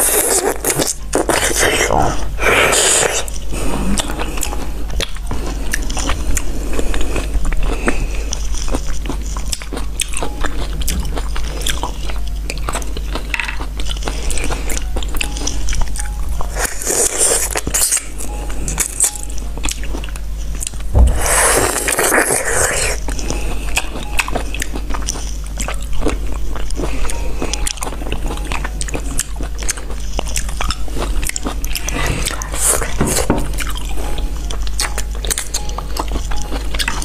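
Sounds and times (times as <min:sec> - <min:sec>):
person chewing juicy fruit: 0:00.0 - 0:37.0.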